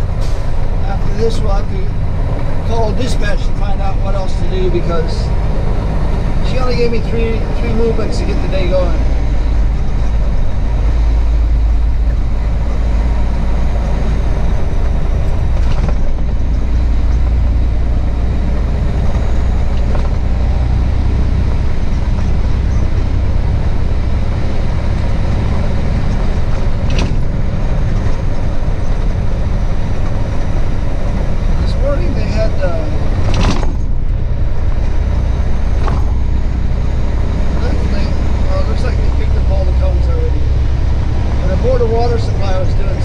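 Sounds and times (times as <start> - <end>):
road noise: 0.0 - 43.0
truck diesel engine rumble: 0.0 - 43.0.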